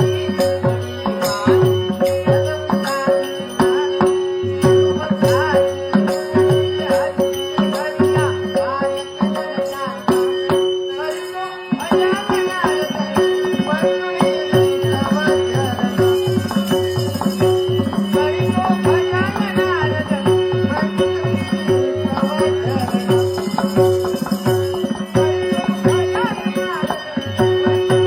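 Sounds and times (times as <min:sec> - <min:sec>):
hand drum rhythm: 0:00.0 - 0:10.7, 0:11.9 - 0:28.0.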